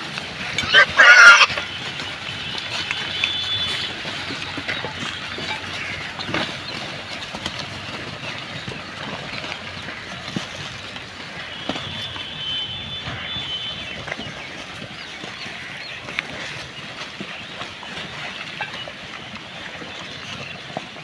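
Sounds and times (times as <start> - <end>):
pigs chewing: 0.0 - 21.0
plastic and litter rustling: 0.0 - 21.0.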